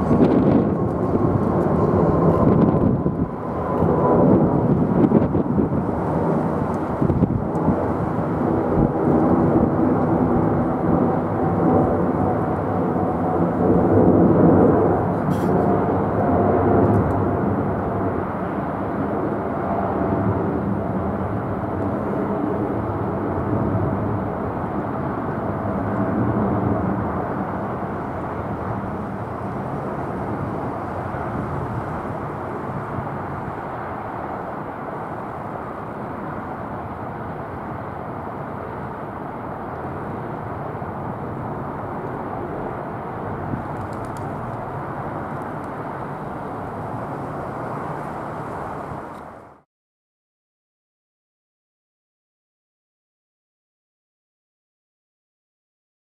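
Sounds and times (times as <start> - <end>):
jet engines rumbling: 0.0 - 49.6.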